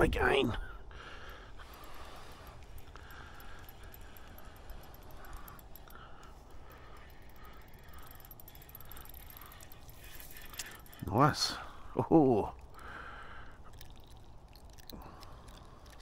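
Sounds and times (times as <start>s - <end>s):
fishing reel whirring: 1.0s - 16.0s.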